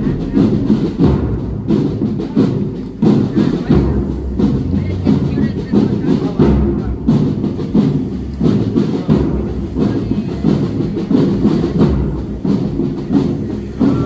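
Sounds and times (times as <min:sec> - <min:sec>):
drum corps marching rhythm: 0:00.0 - 0:14.0.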